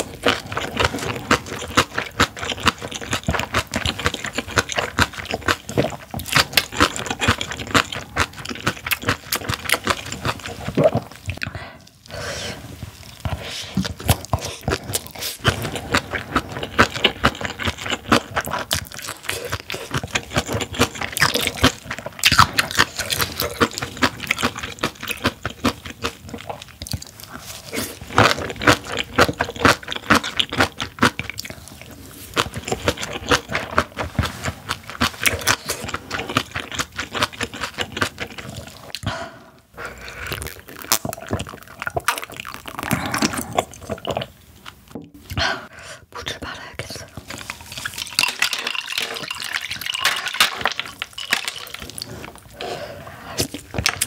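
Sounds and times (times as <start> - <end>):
wet crunchy chewing: 0.0 - 12.1, 12.8 - 39.1, 39.8 - 45.0.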